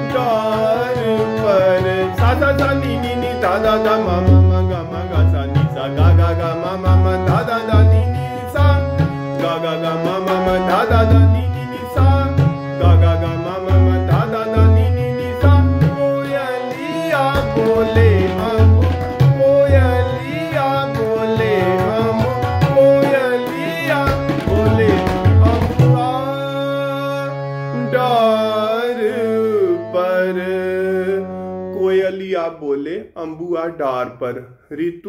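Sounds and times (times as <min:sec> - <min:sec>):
harmonium melody: 0:00.0 - 0:33.8.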